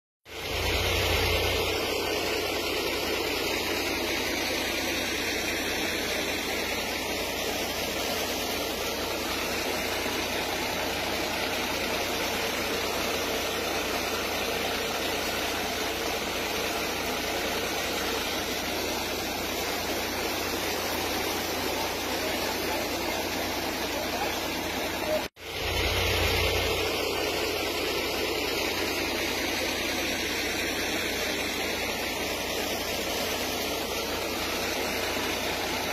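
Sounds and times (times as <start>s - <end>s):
floodwater rushing: 0.4s - 35.9s.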